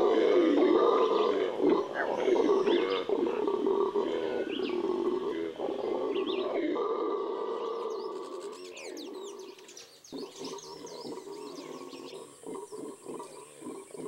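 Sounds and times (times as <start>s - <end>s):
monkey howling: 0.0s - 9.5s, 10.1s - 14.0s.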